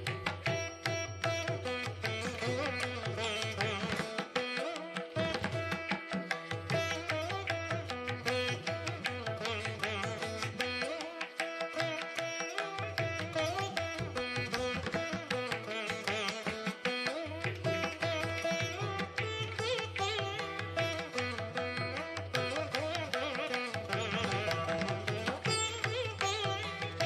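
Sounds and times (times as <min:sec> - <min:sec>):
plucked string melody: 0:00.0 - 0:27.0.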